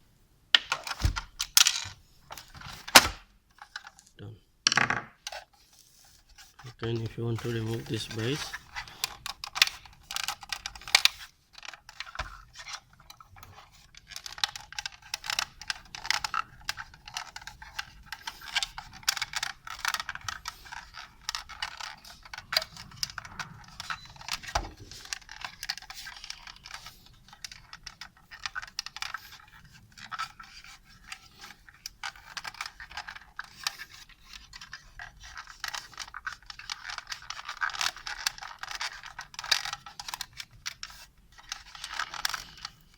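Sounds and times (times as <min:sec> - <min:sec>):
plastic parts clicking and scraping: 0:00.6 - 0:42.9.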